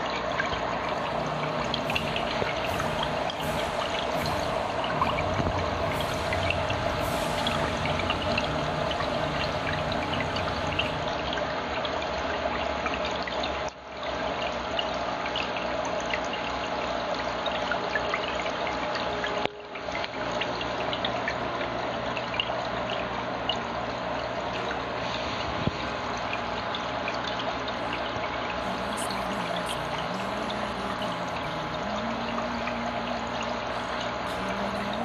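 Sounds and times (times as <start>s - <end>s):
aquarium water trickling and bubbling: 0.0s - 35.0s.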